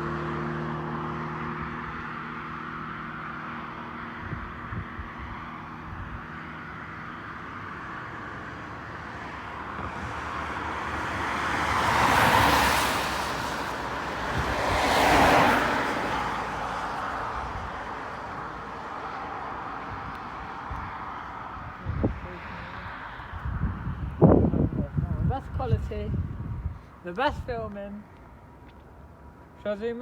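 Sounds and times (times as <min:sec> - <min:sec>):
road vehicles passing close: 0:00.0 - 0:30.0.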